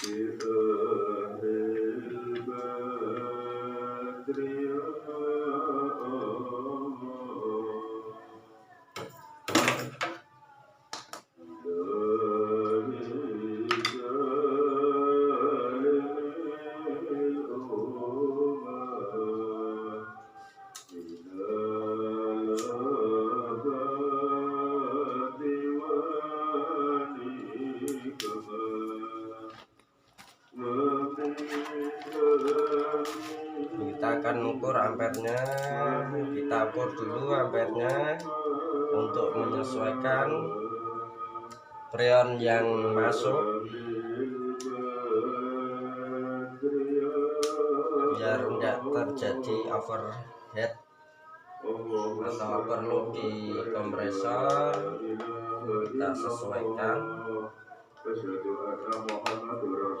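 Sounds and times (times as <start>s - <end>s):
music with person singing long notes: 0.0s - 60.0s.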